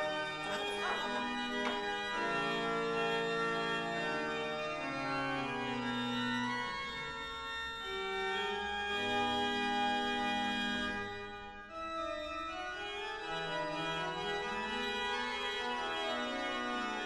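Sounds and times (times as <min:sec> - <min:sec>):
pipe organ chords: 0:00.0 - 0:17.0.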